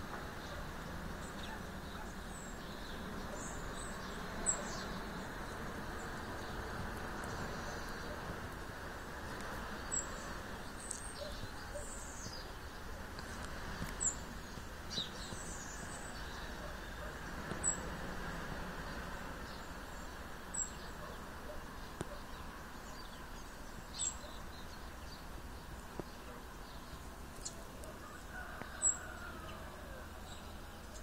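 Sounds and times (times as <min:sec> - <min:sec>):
birds chirping: 0:00.0 - 0:31.0
steady background hiss: 0:00.0 - 0:31.0.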